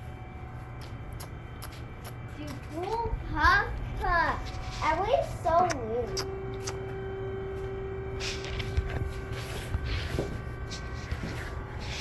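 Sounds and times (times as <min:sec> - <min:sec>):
steady even hum: 0:00.0 - 0:12.0.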